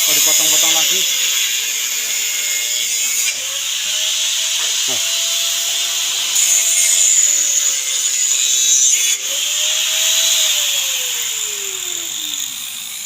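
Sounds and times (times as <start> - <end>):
angle grinder cutting metal: 0.0 - 13.0.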